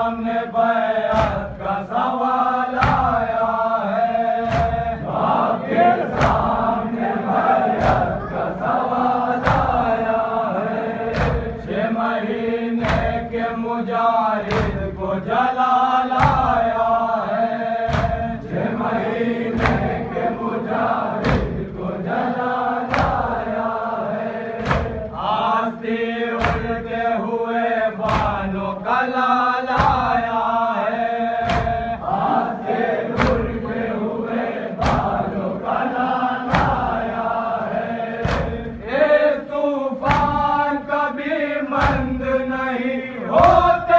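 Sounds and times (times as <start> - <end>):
men chanting in unison: 0.0 - 43.9
rhythmic chest strikes: 0.0 - 43.9.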